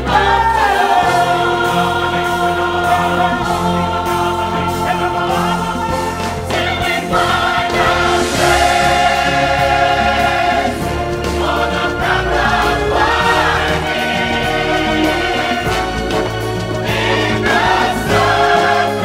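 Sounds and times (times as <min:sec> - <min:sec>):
choir singing held notes: 0:00.0 - 0:19.0
instrumental backing music: 0:00.0 - 0:19.0.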